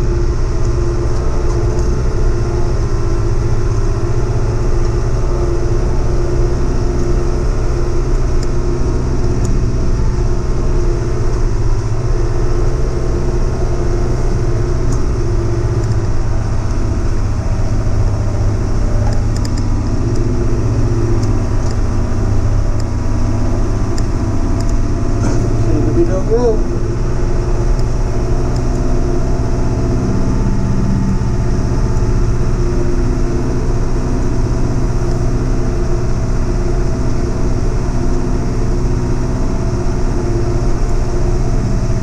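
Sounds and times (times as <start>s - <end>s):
heavy equipment engine running: 0.0s - 42.0s.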